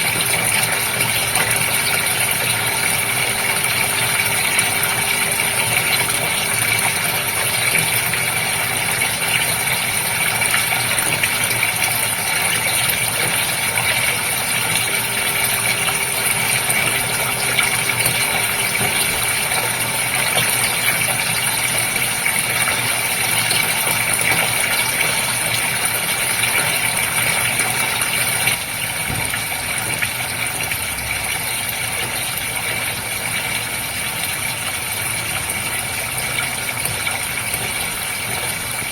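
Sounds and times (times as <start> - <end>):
aquarium pump humming: 0.0 - 38.9.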